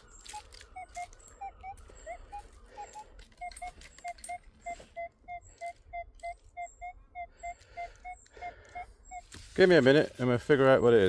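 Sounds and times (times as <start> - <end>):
metal detector beeping: 0.0 - 11.0.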